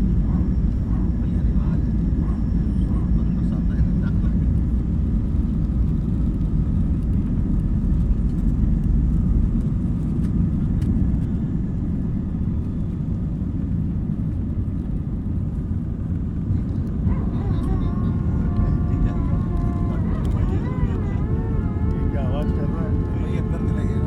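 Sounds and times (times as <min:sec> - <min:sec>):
jet engine and airflow rumble: 0:00.0 - 0:24.0.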